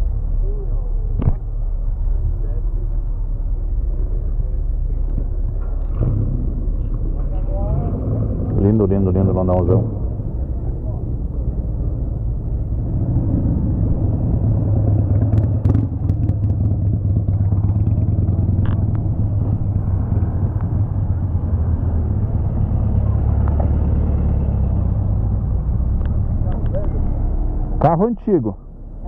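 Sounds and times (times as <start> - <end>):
motorcycle engine running: 0.0 - 27.7.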